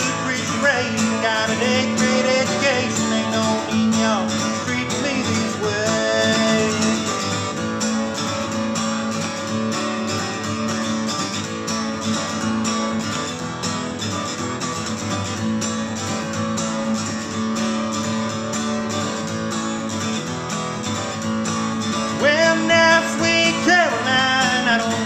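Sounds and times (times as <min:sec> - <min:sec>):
acoustic guitar strummed: 0:00.0 - 0:25.0.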